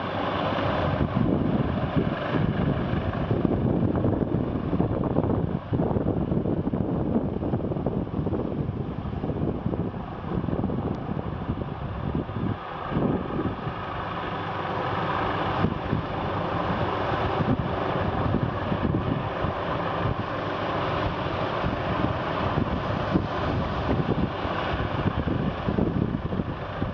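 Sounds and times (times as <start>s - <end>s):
helicopter engine and rotor: 0.0s - 26.9s
wind buffeting microphone: 0.0s - 26.9s.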